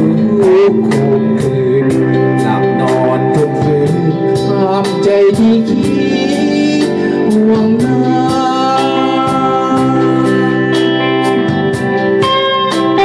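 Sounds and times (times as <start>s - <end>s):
live band playing: 0.0s - 13.0s
person singing: 0.0s - 13.0s
steady beat: 0.0s - 13.0s.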